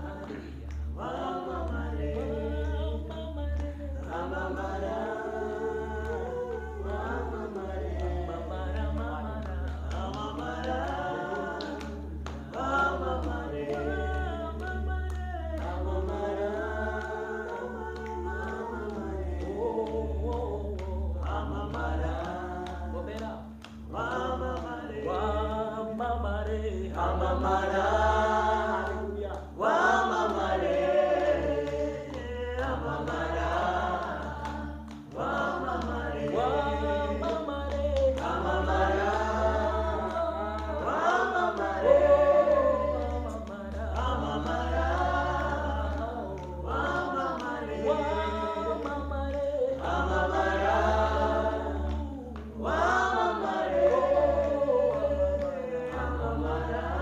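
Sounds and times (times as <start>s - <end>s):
choir singing gospel song: 0.0s - 57.0s.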